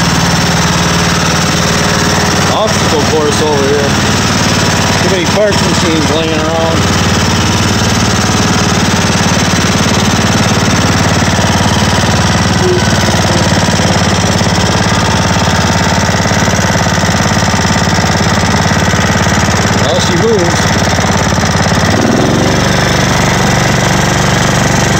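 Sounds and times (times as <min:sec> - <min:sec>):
riding mower engine running: 0:00.0 - 0:24.9.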